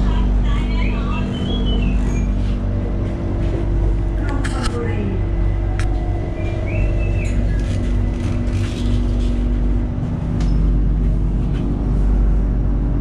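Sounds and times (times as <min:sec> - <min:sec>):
high whine: 0:00.0 - 0:13.0
motor hum: 0:00.0 - 0:13.0
train rumble: 0:00.0 - 0:13.0.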